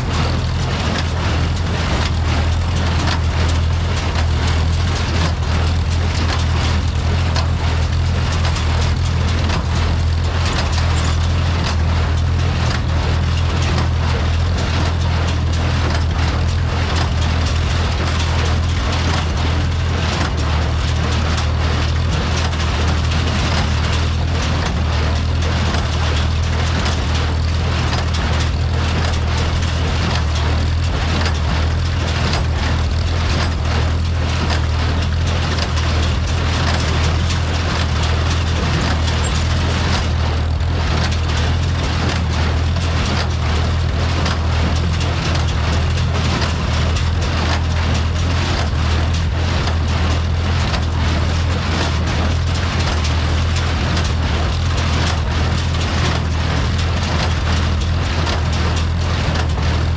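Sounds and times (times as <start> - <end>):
baler clattering and knocking: 0.0 - 59.9
tractor engine running: 0.0 - 59.9.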